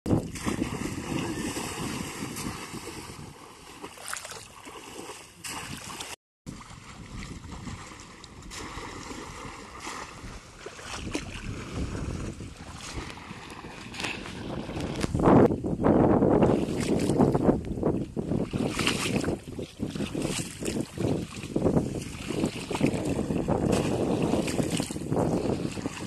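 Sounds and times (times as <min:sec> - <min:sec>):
water splashing and sloshing: 0:00.1 - 0:15.5, 0:16.4 - 0:26.0.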